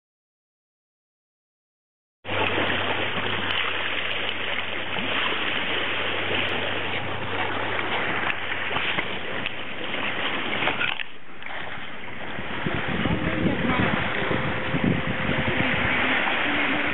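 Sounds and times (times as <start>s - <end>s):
water rushing along boat bow: 2.2s - 16.9s.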